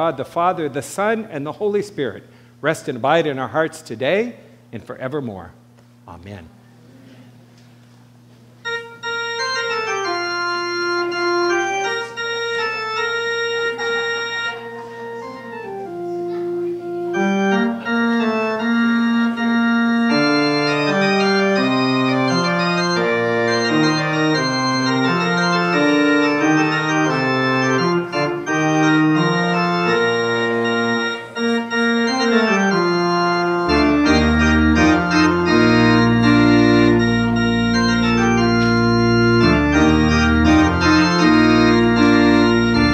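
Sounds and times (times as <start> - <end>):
church organ playing: 0.0 - 5.5, 8.6 - 42.9.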